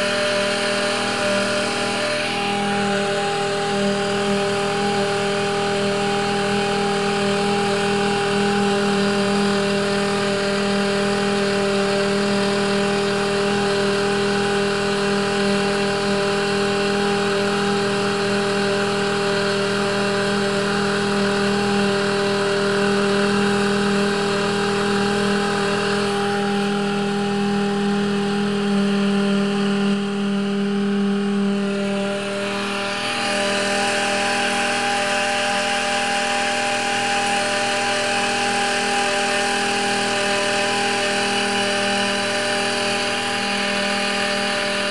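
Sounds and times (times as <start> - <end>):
electric outboard motor whining: 0.0 - 44.9.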